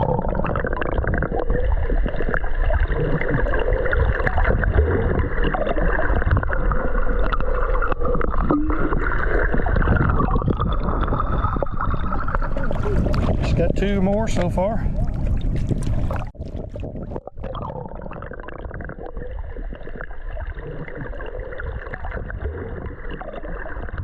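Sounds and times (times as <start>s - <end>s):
muffled underwater gurgling: 0.0s - 24.0s.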